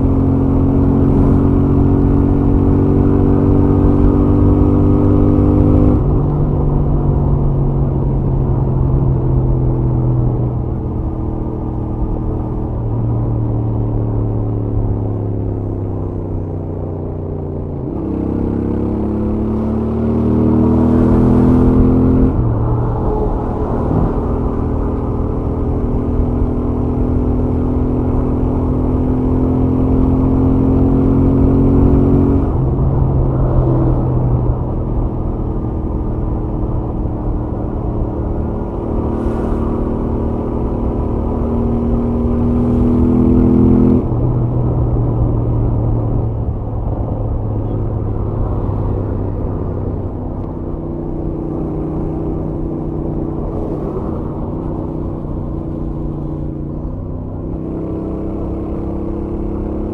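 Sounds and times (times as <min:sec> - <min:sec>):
motorcycle engine and exhaust: 0:00.0 - 0:59.9
wind and road noise: 0:00.0 - 0:59.9.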